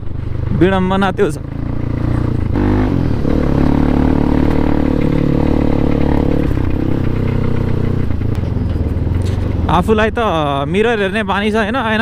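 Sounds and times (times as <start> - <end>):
dirt bike exhaust: 0.0 - 9.7.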